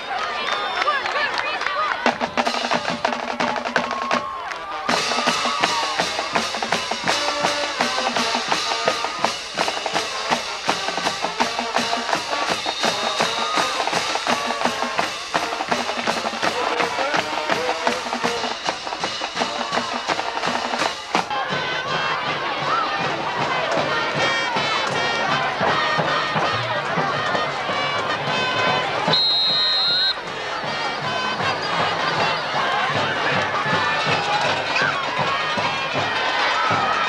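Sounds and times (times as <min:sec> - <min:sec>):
drums keeping a steady beat: 0:01.8 - 0:37.0
horns playing a tune: 0:02.3 - 0:37.0.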